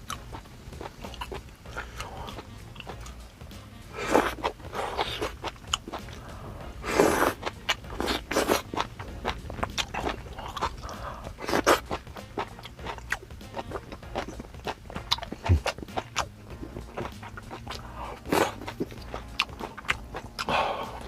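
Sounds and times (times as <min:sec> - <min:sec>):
wet chewing and crunching: 0:00.0 - 0:21.0.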